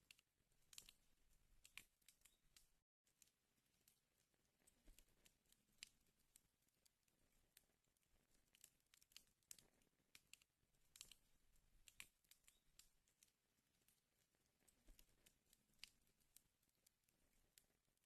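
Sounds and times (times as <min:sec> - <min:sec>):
wood fire crackling and popping: 0:00.1 - 0:02.8, 0:03.8 - 0:17.8.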